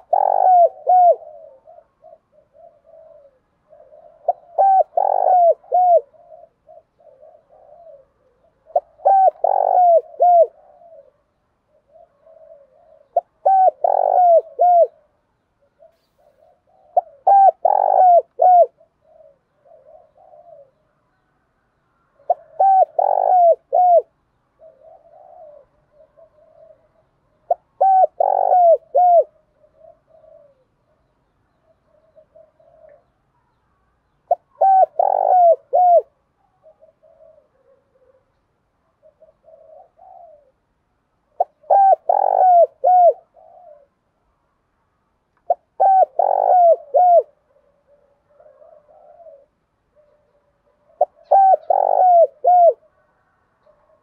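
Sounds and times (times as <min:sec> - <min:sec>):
dove cooing: 0:00.0 - 0:21.3, 0:22.1 - 0:44.2, 0:45.4 - 0:54.0.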